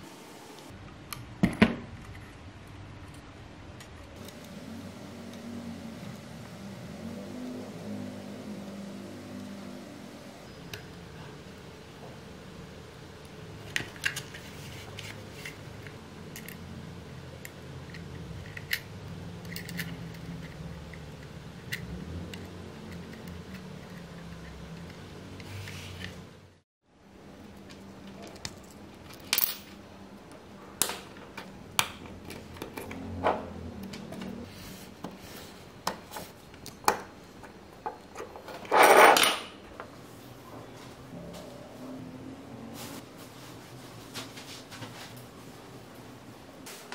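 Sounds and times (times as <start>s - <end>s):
low background hum: 0.0s - 46.9s.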